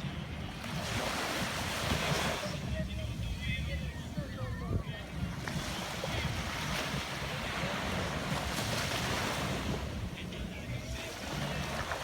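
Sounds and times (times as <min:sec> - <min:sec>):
ocean waves breaking: 0:00.0 - 0:03.9, 0:04.9 - 0:12.0
wind rumble on microphone: 0:00.0 - 0:12.0.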